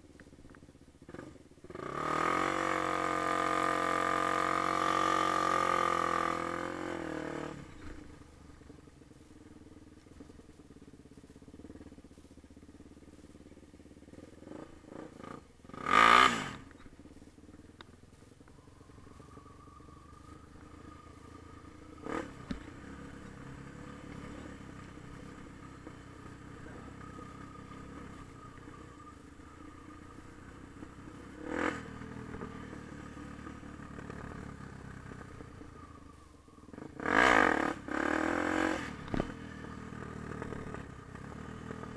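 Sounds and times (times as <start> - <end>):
dirt bike engine running: 0.0 - 41.9.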